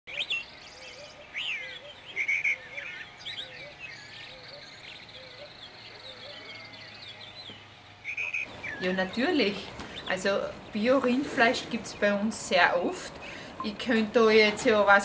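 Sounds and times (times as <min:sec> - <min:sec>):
songbirds chirping and singing: 0:00.1 - 0:15.0.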